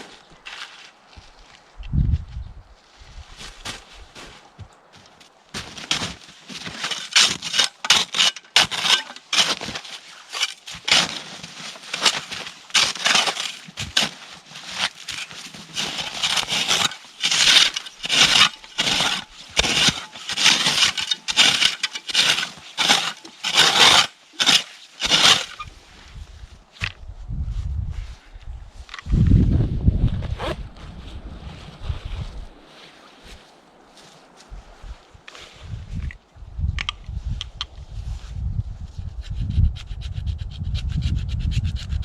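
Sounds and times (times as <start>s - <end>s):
crunching scraping strokes: 0.0s - 1.8s, 2.8s - 27.0s, 28.0s - 36.2s.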